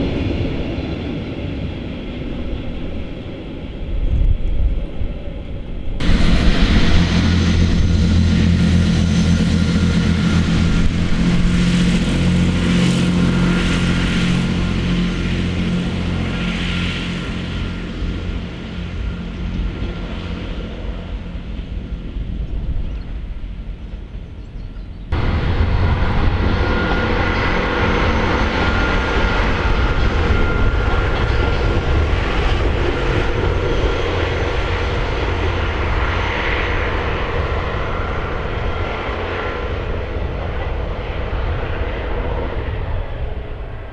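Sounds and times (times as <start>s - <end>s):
diesel train engines droning: 5.2s - 41.4s.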